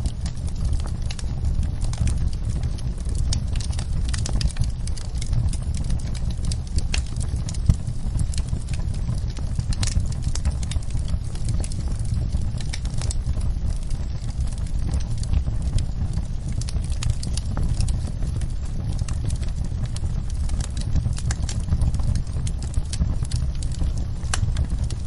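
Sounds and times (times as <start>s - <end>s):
fire snaps and pops: 0.0s - 25.0s
low rumble of flames: 0.0s - 25.0s.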